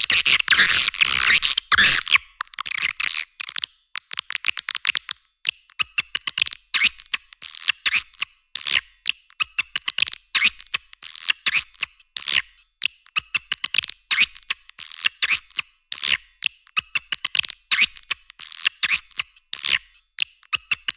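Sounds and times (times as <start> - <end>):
high-pitched bird clicks and chirps: 0.0 - 20.9.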